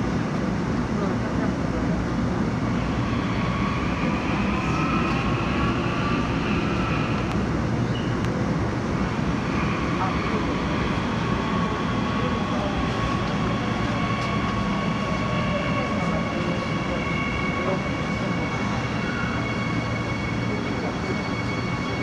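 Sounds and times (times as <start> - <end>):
train rumbling through tunnel: 0.0 - 22.0.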